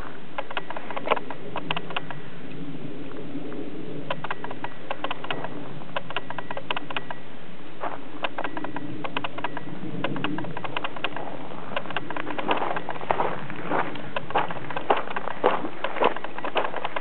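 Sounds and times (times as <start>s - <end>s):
sharp crackling clicks: 0.0s - 2.6s, 4.0s - 17.0s
wind on microphone: 0.0s - 17.0s.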